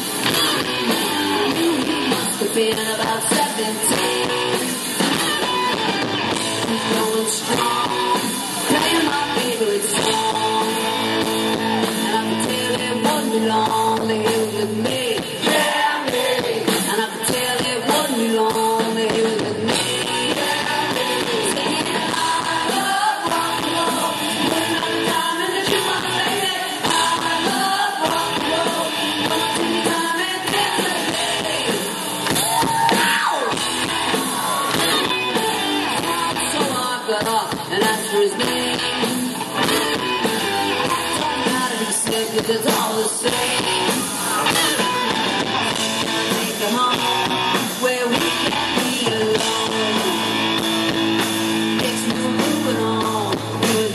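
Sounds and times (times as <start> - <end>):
rock band playing: 0.0 - 53.9
woman singing: 1.0 - 4.7, 6.6 - 31.9, 35.5 - 39.0, 39.7 - 44.9, 46.4 - 50.4, 51.7 - 53.9.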